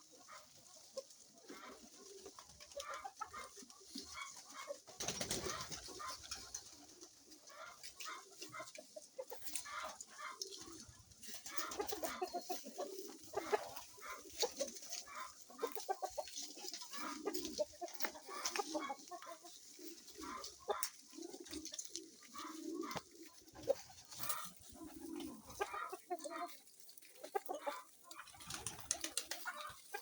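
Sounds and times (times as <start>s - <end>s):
pigeons cooing: 0.0s - 26.6s
chickens clucking: 0.0s - 30.0s.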